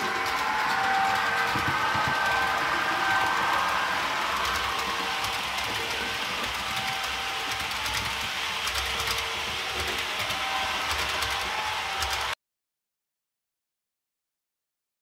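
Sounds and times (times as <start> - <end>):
model train motor hum: 0.0 - 12.4
wheels clicking over rails: 0.0 - 12.4.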